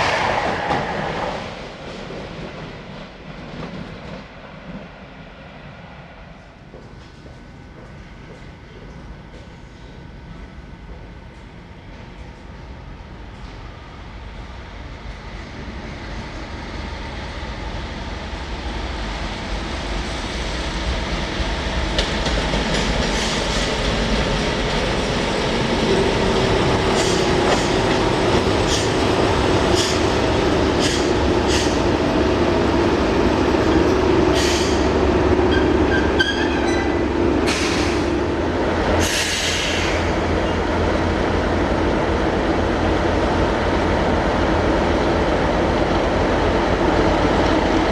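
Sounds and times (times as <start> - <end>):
train running past: 0.0 - 47.9.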